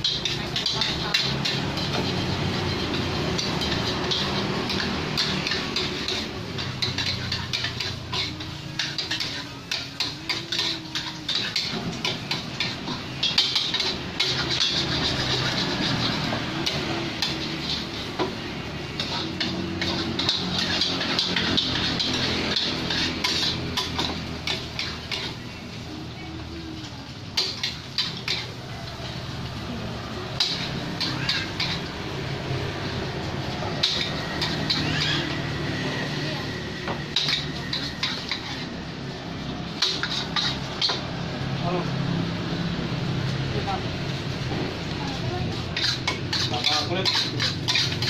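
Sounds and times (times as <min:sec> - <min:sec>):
metal spatulas clanking on woks: 0:00.0 - 0:25.6, 0:26.2 - 0:29.3, 0:30.2 - 0:41.1, 0:45.6 - 0:48.0
frying hiss: 0:00.0 - 0:48.0.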